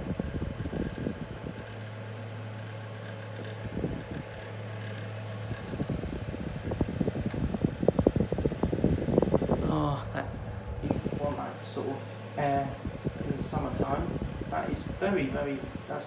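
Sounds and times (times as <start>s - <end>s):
airflow buffeting microphone: 0.0s - 16.0s
fan motor humming: 0.0s - 16.0s.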